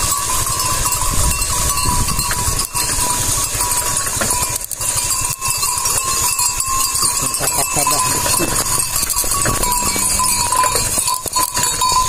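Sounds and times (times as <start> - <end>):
sheep bells clinking: 0.0 - 12.0.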